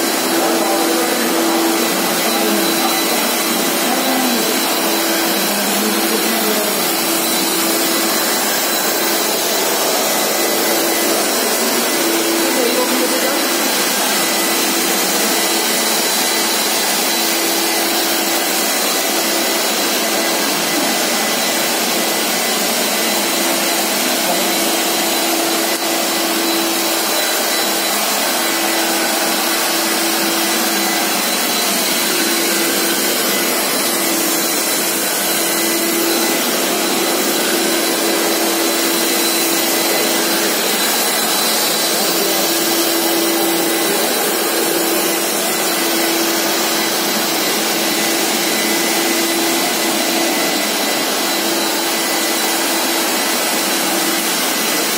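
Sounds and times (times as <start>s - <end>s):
floor scrubber suction motor: 0.0s - 54.9s.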